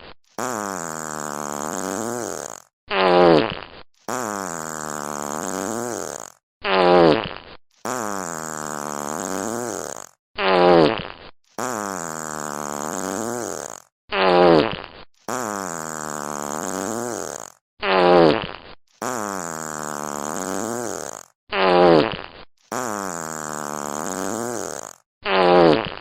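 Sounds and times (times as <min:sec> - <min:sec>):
long drawn-out farts: 0:00.4 - 0:26.0
short loud farts: 0:00.4 - 0:26.0.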